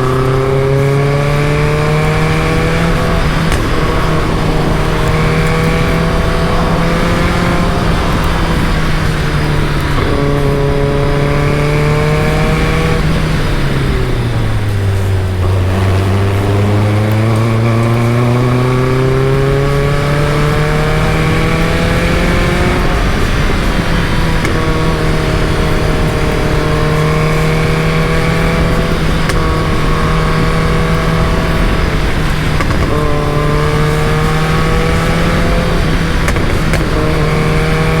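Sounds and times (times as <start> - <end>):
car engine revving through gears: 0.0 - 38.0.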